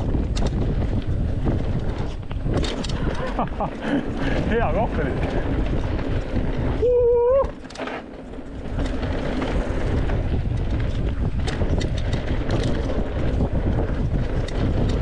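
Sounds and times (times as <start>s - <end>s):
bike rattles and clicks: 0.0s - 15.0s
wind rushing over microphone: 0.0s - 15.0s.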